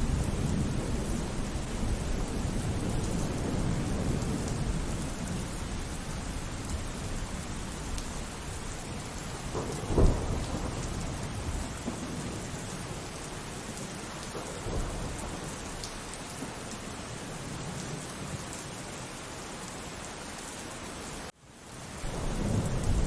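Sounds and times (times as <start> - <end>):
thunder clap and rumble: 0.0 - 18.3, 22.0 - 23.0
steady rain: 0.0 - 23.0.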